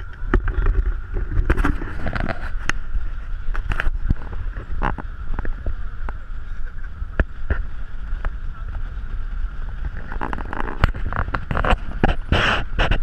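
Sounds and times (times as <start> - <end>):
vehicle hum: 0.0 - 13.0
wind buffeting microphone: 0.0 - 13.0.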